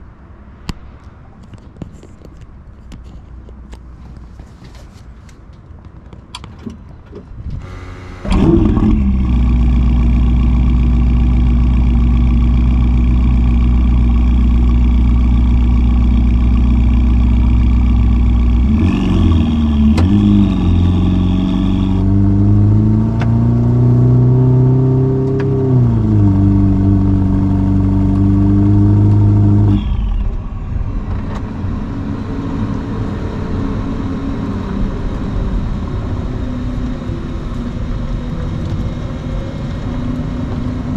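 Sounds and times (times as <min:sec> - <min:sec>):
car engine idling and revving: 0:07.2 - 0:40.9.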